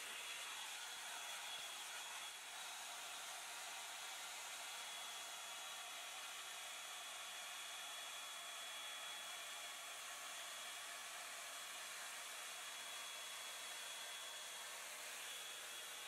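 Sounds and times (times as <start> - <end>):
hot-air brush blowing with whine: 0.0 - 16.0.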